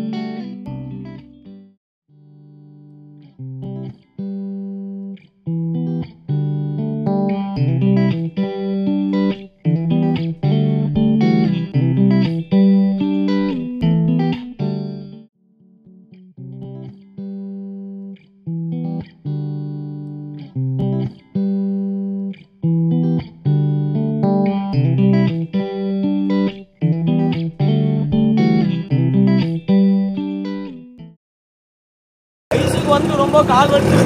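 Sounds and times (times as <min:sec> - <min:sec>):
plucked guitar music: 0:00.0 - 0:31.2.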